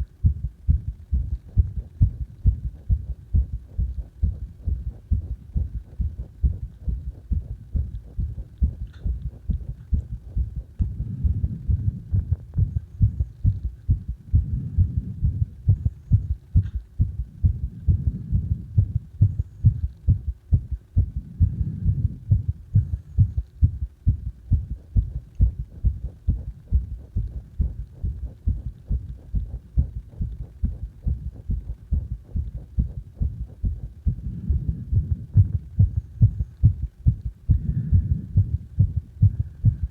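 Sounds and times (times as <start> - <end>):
heartbeat: 0.0 - 39.9.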